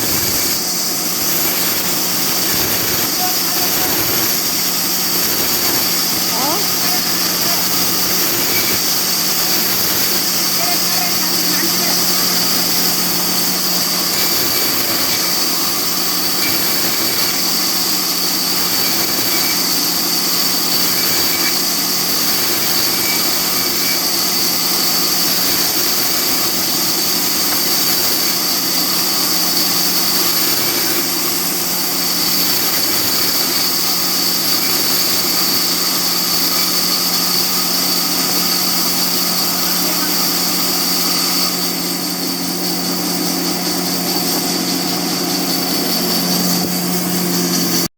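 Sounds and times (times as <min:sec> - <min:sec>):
high-pitched machine whine: 0:00.0 - 0:47.9
sawmill machinery hum: 0:00.0 - 0:47.9.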